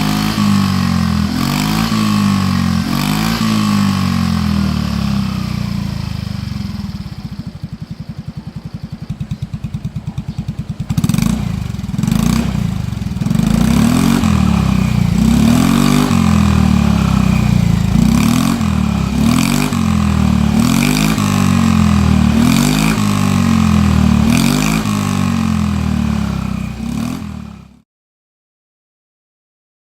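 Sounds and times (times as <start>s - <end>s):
scooter engine idling and revving: 0.0s - 27.8s.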